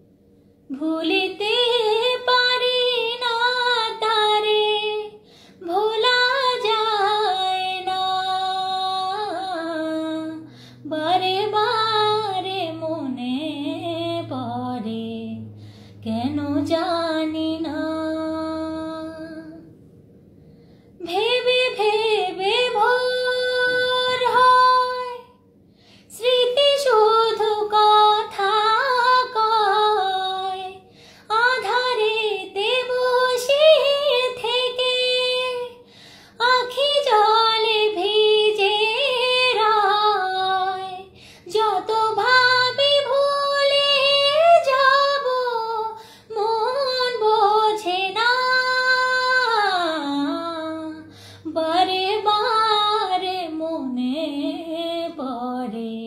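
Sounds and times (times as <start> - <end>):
woman singing unaccompanied: 0.7 - 19.7, 21.0 - 25.4, 26.1 - 56.0.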